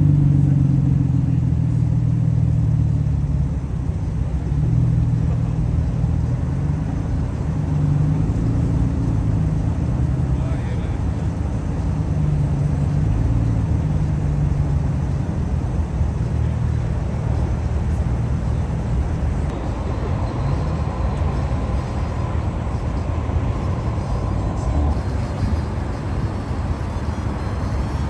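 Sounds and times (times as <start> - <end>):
car engines idling: 0.0 - 28.0.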